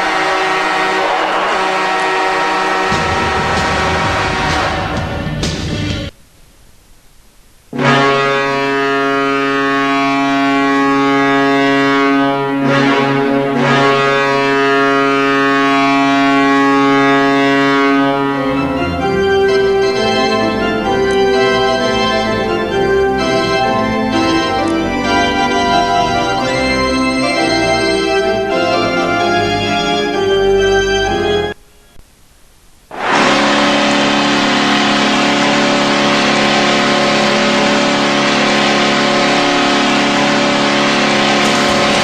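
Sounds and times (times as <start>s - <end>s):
goal horn chord: 0.0s - 5.5s, 7.7s - 32.0s, 32.9s - 42.0s
organ-like tune: 0.0s - 6.1s, 7.8s - 32.0s, 32.9s - 42.0s.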